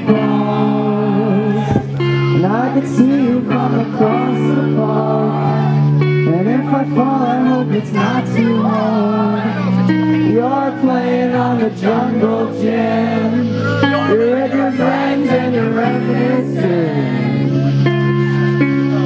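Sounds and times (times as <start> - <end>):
man singing: 0.0 - 18.2
live band music: 0.0 - 19.0.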